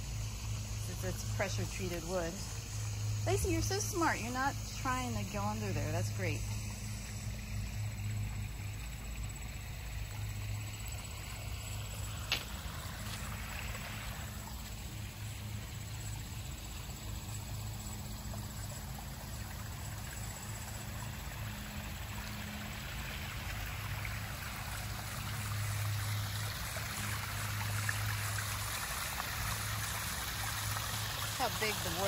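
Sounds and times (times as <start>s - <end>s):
low steady hum: 0.0s - 32.0s
pond waterfall splashing: 0.0s - 32.0s.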